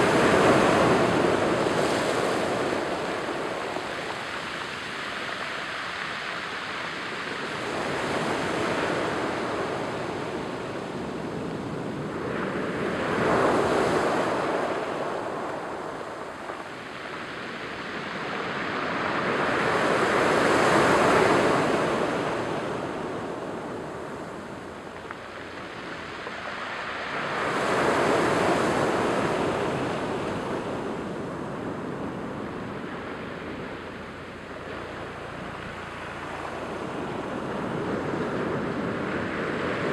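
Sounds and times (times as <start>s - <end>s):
surf washing over pebbles: 0.0s - 39.9s.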